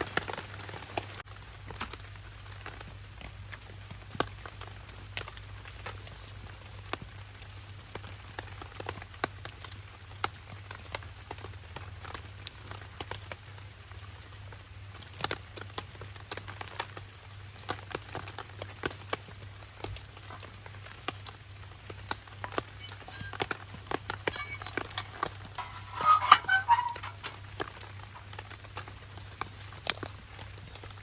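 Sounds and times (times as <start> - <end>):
rain drops tapping on tarp: 0.0 - 22.2, 28.1 - 31.0.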